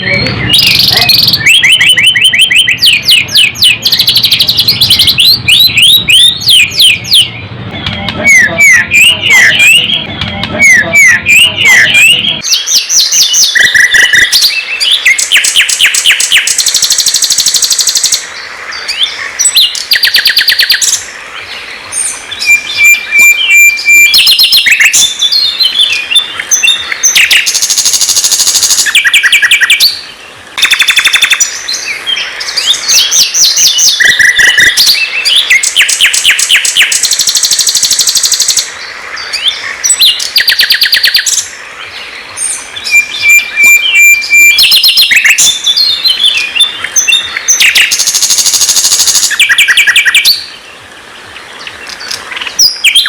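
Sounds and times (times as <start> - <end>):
songbird trilling and whistling: 0.0 - 21.1, 21.9 - 50.7, 51.6 - 53.0.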